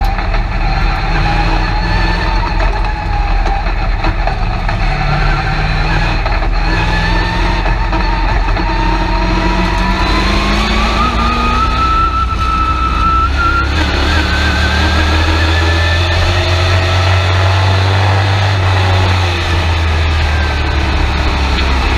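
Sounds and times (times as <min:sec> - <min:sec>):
truck engine from inside cab: 0:00.0 - 0:21.9.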